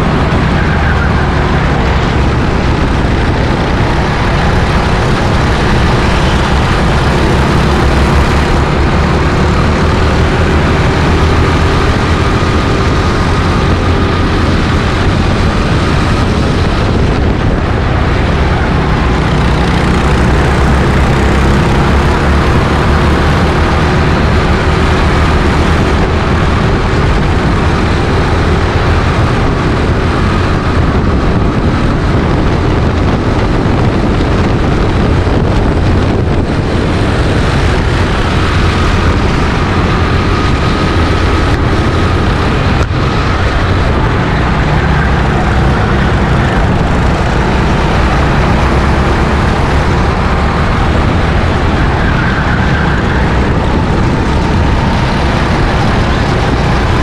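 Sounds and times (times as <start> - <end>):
go-kart engine running: 0.0 - 57.0
wind on microphone: 0.0 - 57.0.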